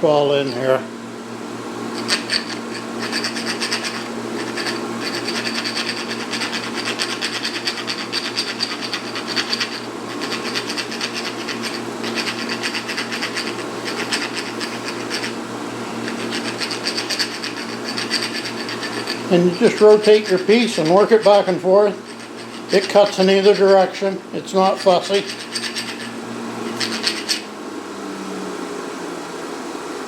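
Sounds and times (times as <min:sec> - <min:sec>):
file rasping on rod threads: 0:01.9 - 0:24.0, 0:24.6 - 0:27.5.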